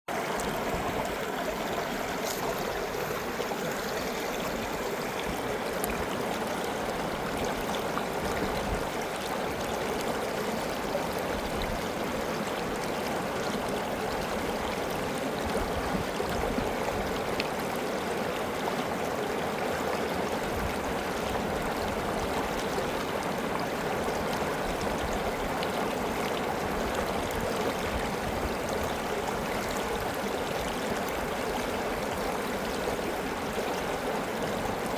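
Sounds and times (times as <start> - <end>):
stream flowing over rocks: 0.1 - 34.9.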